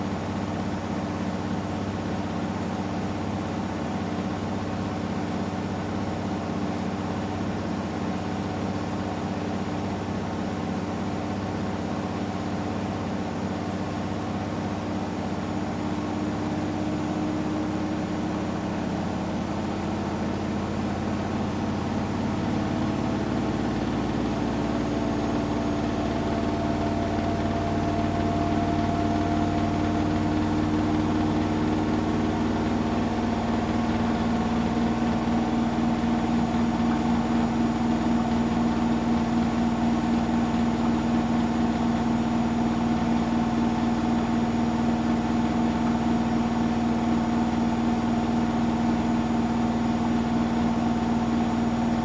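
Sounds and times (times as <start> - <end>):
washing machine humming: 0.0 - 52.0.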